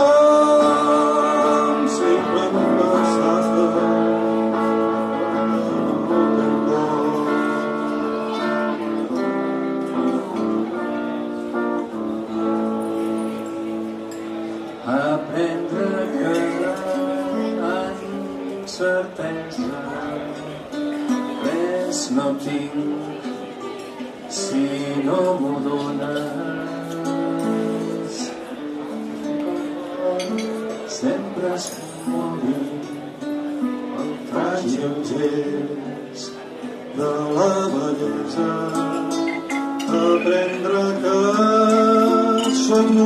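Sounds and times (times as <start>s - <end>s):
acoustic guitar: 0.0s - 43.0s
lap-played string instrument: 0.0s - 43.0s.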